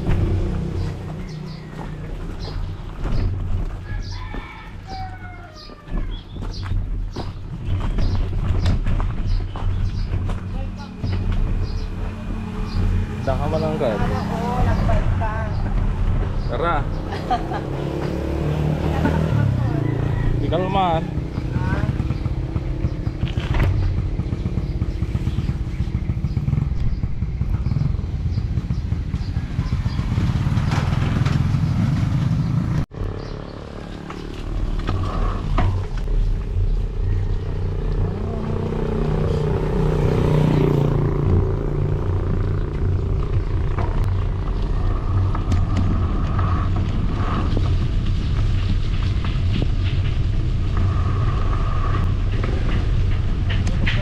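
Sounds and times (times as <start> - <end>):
low engine rumble: 0.0 - 54.0.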